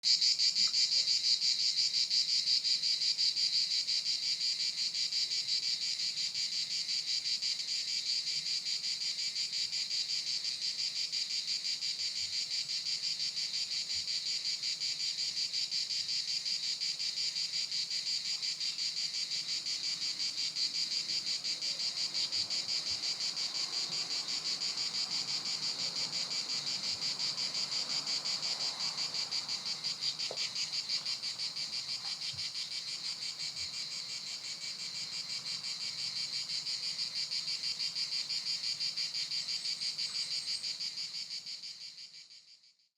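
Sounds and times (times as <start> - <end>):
cicadas buzzing: 0.1 - 42.5.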